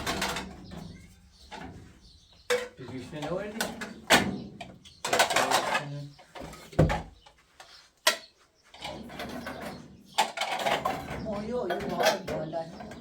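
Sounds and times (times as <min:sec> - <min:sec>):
rustling and scraping: 0:00.0 - 0:13.0.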